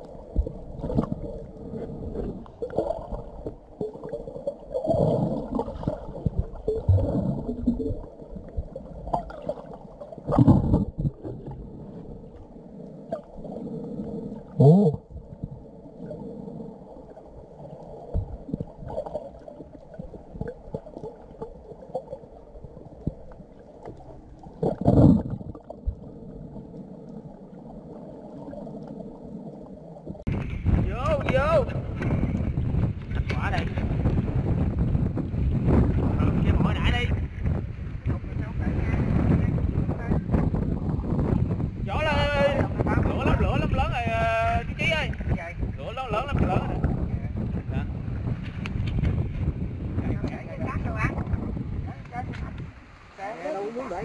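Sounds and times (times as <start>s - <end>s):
muffled underwater water movement: 0.0s - 54.0s.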